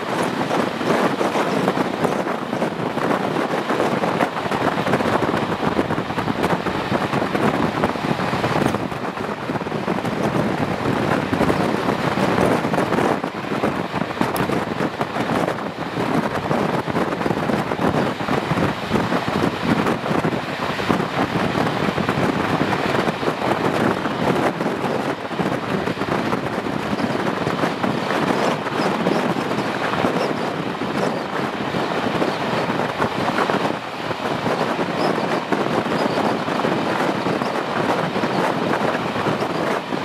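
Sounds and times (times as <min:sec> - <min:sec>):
train wheels running on rails: 0:00.0 - 0:40.0
wind rushing over microphone: 0:00.0 - 0:40.0.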